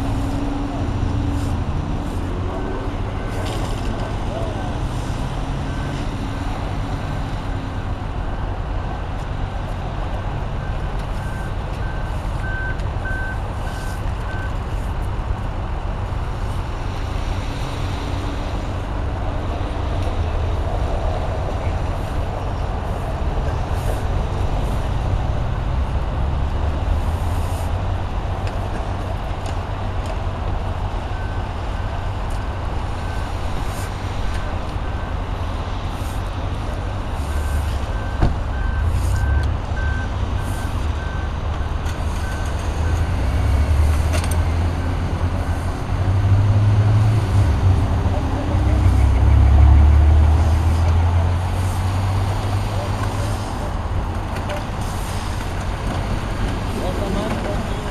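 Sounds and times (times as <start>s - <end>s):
idling engines and road traffic: 0.0s - 57.9s.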